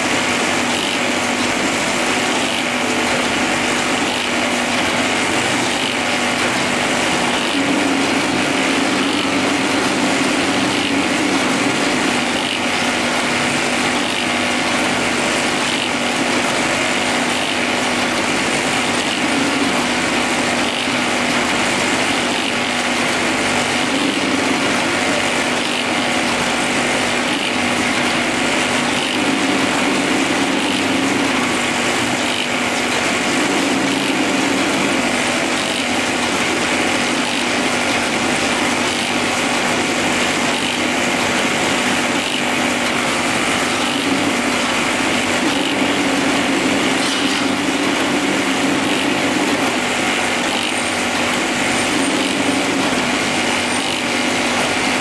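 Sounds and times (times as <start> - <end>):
sewing machine whirring: 0.0 - 55.0.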